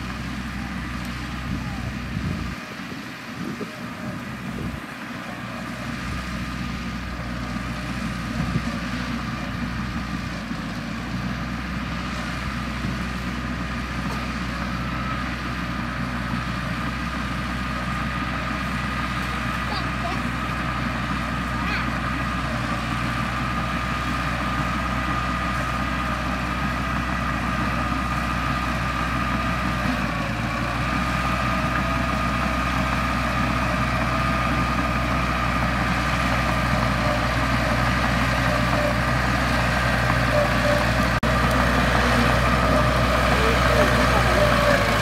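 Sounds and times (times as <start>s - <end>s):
diesel engine low hum: 0.0s - 45.0s
engine whine: 0.0s - 45.0s.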